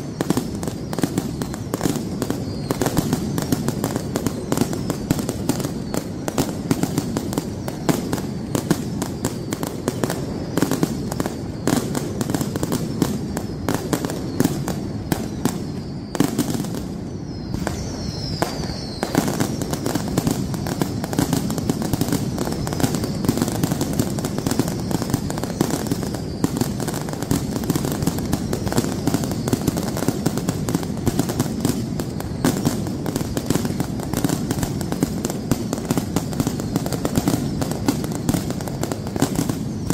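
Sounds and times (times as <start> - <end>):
falling firework whistle: 0.0 - 39.9
fireworks banging and crackling: 0.0 - 39.9.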